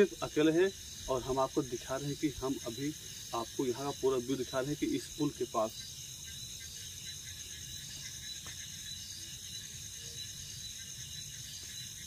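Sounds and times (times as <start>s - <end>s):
crickets and insects chirping: 0.0s - 12.0s.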